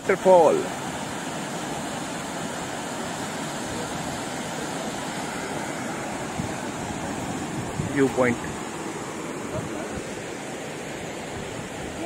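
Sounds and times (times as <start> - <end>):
distant waterfall rushing: 0.0 - 12.0.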